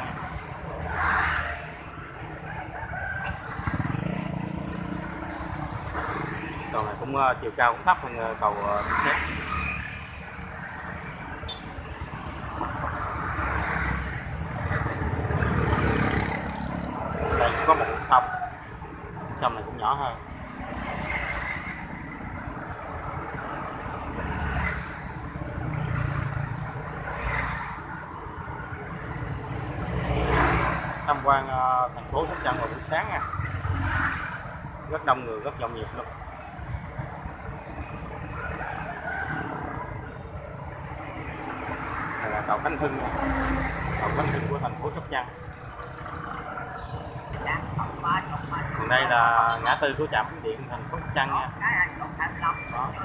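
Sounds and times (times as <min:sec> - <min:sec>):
motorbikes passing: 0:00.0 - 0:53.0.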